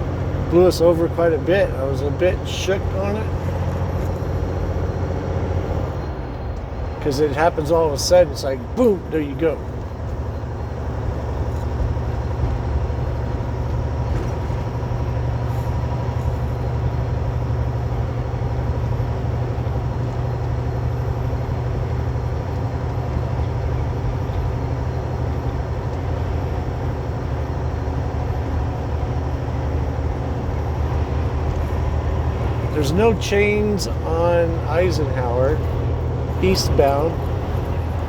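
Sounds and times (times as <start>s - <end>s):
diesel truck engine drone: 0.0s - 38.0s
road and wind noise: 0.0s - 38.0s.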